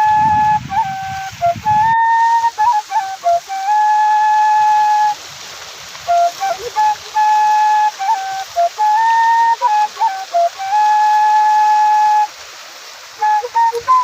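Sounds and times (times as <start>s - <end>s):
flute-like melody: 0.0s - 14.0s
steady hiss: 0.0s - 14.0s.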